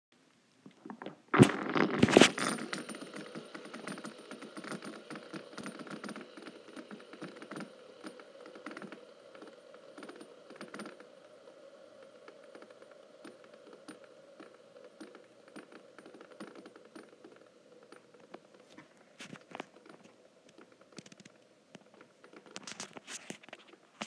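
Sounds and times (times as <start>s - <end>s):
fidget spinner whirring: 2.0s - 23.7s.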